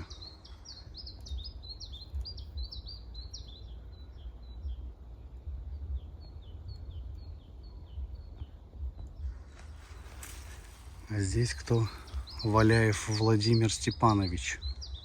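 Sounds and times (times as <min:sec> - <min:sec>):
low rumble: 0:00.0 - 0:13.5
songbird singing: 0:00.0 - 0:15.0.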